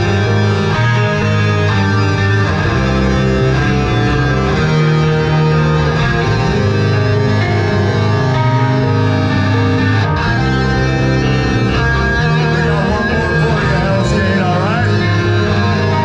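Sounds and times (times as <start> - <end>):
guitar note bending upward: 0.0 - 16.0
heavy rock band playing live: 0.0 - 16.0.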